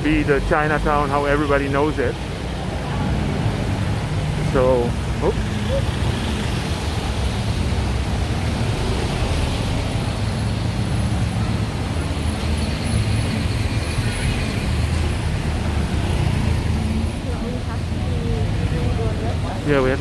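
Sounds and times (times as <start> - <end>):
vehicle engines and tyres passing: 0.0 - 20.0.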